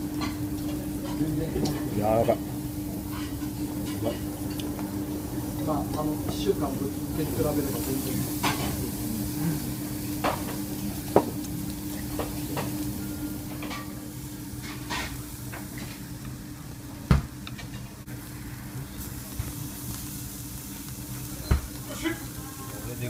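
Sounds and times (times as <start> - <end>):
beef sizzling on a grill: 0.0 - 23.0
steady low hum: 0.0 - 23.0.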